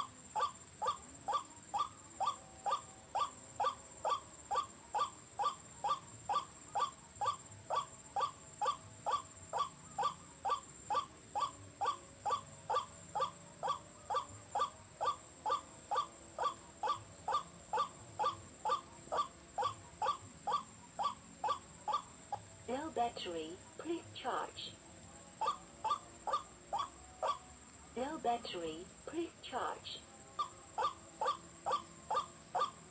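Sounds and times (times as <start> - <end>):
electronic bird call: 0.0 - 24.8, 25.4 - 32.9.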